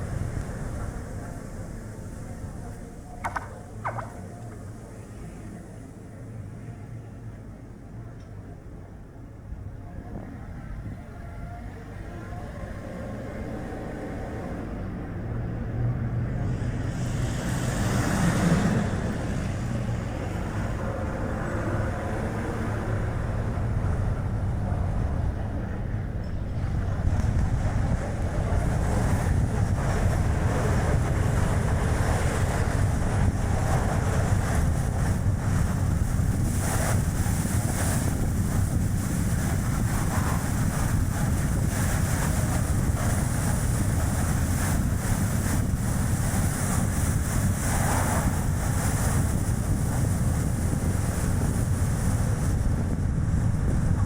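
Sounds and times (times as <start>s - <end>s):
tyre and road noise: 0.0s - 5.9s, 12.9s - 54.0s
wind rushing over microphone: 0.0s - 6.6s, 9.5s - 54.0s.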